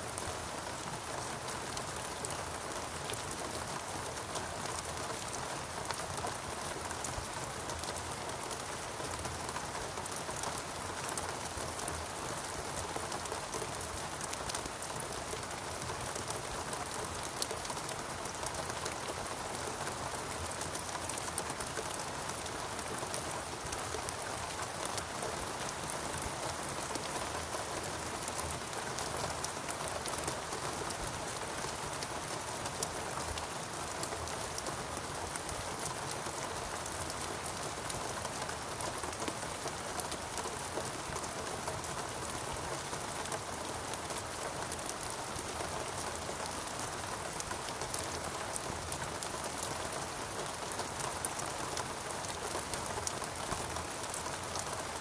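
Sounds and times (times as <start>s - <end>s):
steady rainfall: 0.0s - 55.0s
raindrops pattering: 0.1s - 55.0s.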